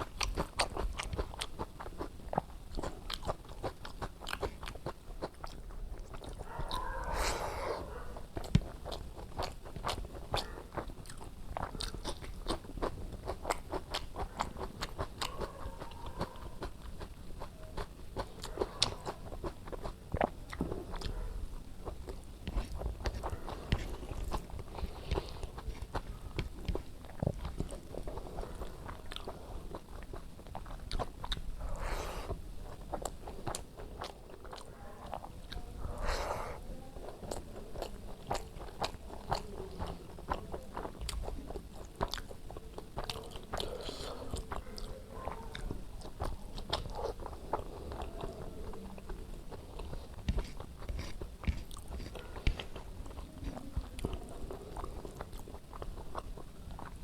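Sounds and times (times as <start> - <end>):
chewing and wet mouth clicks: 0.0 - 7.3, 8.2 - 57.0.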